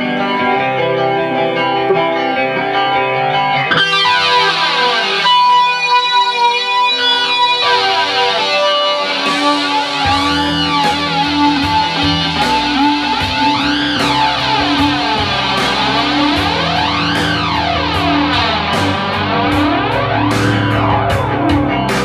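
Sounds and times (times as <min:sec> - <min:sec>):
electric guitar lead with vibrato: 0:00.0 - 0:22.0
hard rock ballad backing track: 0:00.0 - 0:22.0
wah pedal sweeping: 0:01.8 - 0:22.0.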